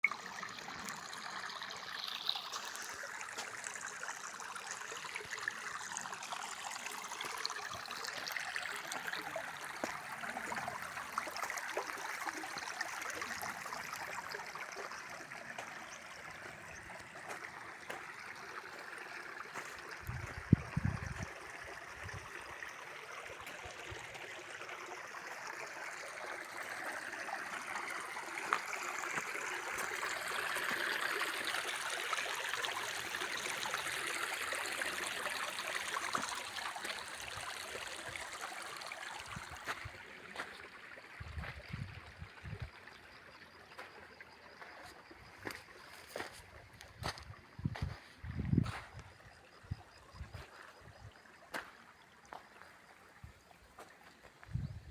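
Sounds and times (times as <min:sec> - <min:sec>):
running water: 0:00.0 - 0:54.9.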